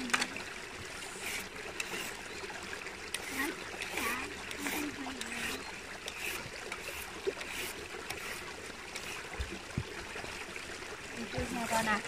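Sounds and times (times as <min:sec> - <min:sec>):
water flowing: 0:00.0 - 0:12.0.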